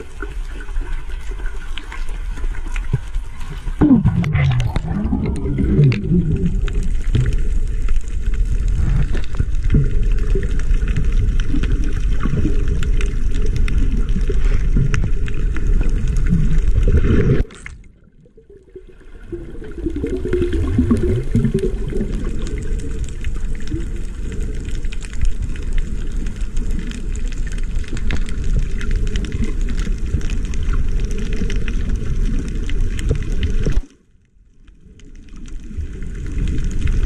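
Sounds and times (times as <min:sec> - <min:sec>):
bubbly gurgles: 0:00.0 - 0:33.9, 0:34.6 - 0:37.0
underwater rumble of moving water: 0:00.0 - 0:37.0.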